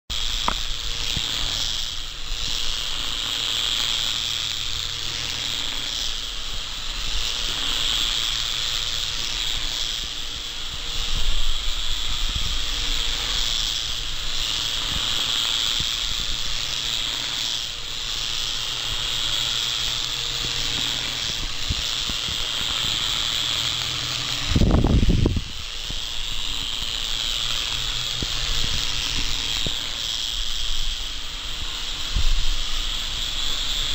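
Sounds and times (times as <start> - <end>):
toy helicopter rotor whine: 0.1 - 33.9.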